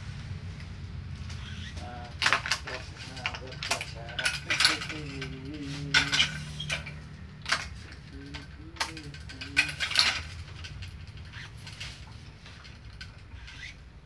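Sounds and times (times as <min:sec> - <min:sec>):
string squeaking through frame: 0:01.2 - 0:14.0
stringing machine clacks and clicks: 0:01.3 - 0:13.9.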